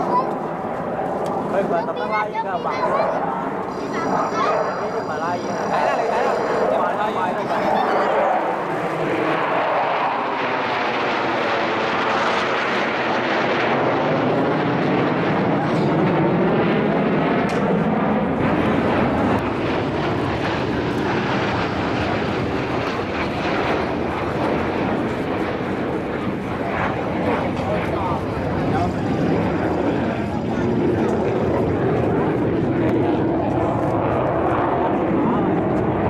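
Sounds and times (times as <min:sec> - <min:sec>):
fighter jets flying past: 0:00.0 - 0:36.0.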